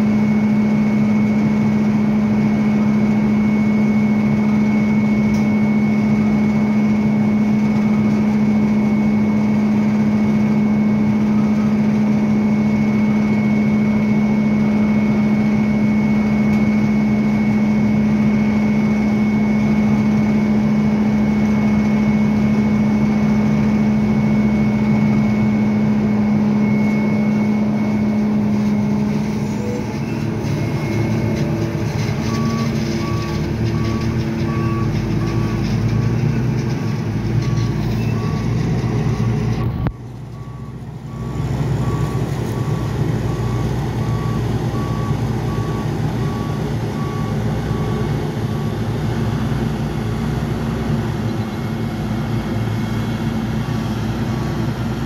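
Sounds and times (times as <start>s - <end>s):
reversing alarm beeping: 0.0s - 49.0s
heavy diesel machinery running: 0.0s - 55.0s.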